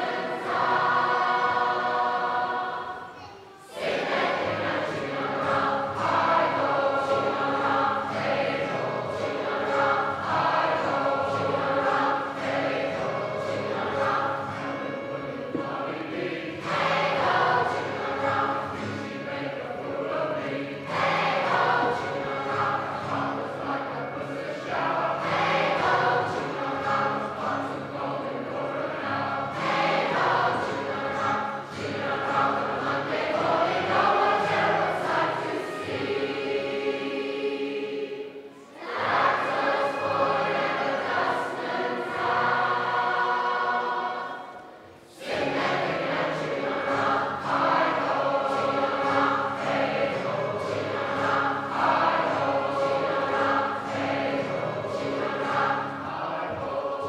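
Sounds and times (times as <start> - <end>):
choir singing a sea shanty: 0.0 - 57.0.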